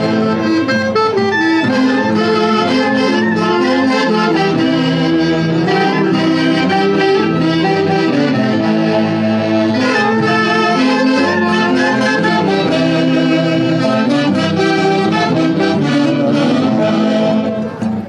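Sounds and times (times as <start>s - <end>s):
steady musical accompaniment: 0.0s - 18.0s
wind band playing a melody: 0.0s - 18.0s.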